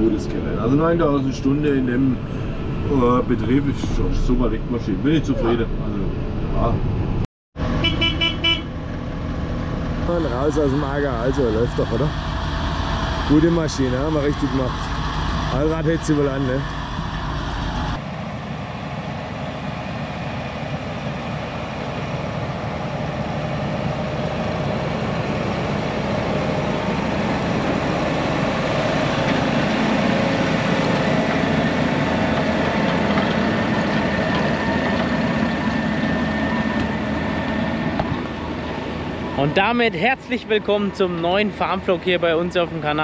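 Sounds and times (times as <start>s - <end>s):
heavy diesel engine running: 7.6s - 43.0s.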